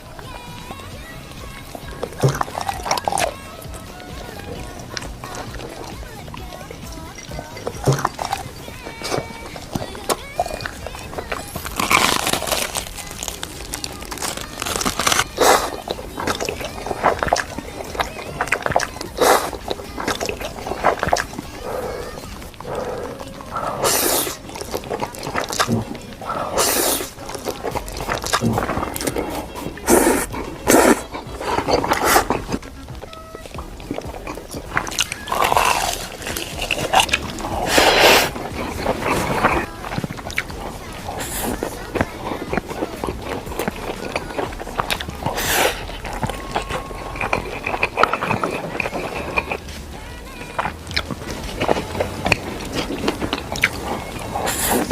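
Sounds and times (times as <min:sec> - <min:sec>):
crunchy eating sounds: 0:00.0 - 0:54.9
person biting and chewing: 0:01.4 - 0:54.9.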